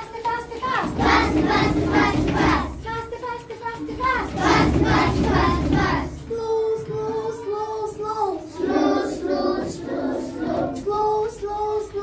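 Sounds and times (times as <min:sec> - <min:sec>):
children singing in unison: 0:00.0 - 0:02.9, 0:03.8 - 0:12.0.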